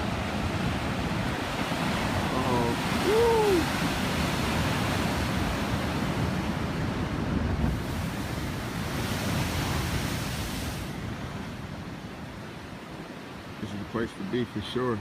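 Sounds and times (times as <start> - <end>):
ocean wave breaking: 0.0 - 14.0.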